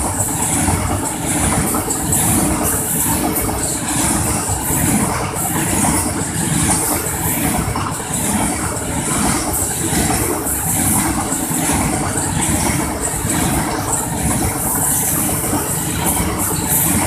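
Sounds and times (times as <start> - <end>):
repeating wheel clatter: 0.0 - 17.0.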